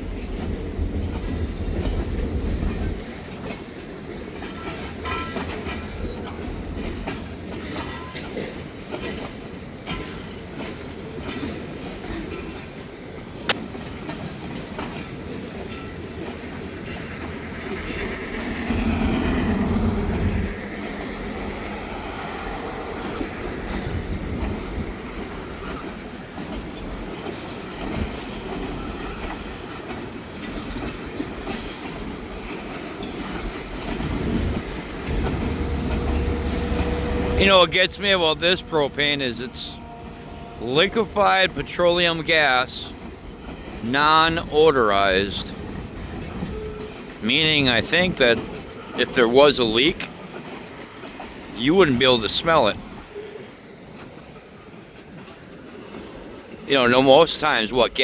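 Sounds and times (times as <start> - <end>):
freight train cars rolling: 0.0 - 58.0
wheels clacking over rail joints: 0.2 - 58.0.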